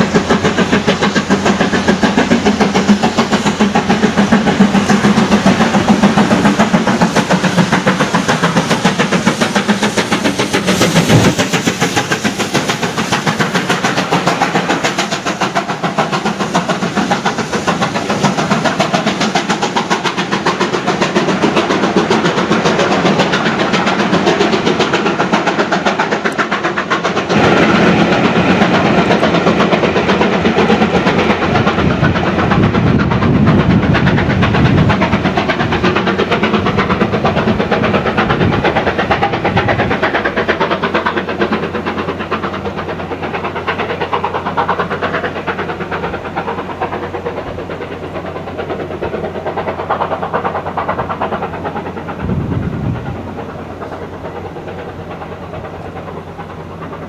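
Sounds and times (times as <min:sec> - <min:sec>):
steam locomotive exhaust beat: 0:00.0 - 0:57.0.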